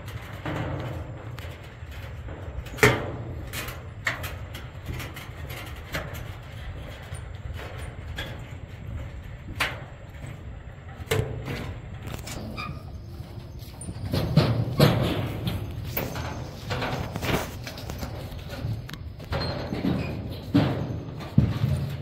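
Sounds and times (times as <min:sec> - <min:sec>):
footsteps on wooden planks: 0:00.0 - 0:22.0
steady low rumble: 0:00.0 - 0:22.0.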